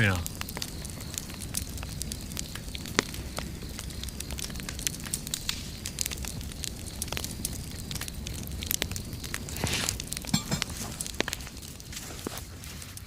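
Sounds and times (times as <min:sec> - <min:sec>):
bonfire crackling: 0:00.0 - 0:13.0
low rumble of flames: 0:00.0 - 0:13.0.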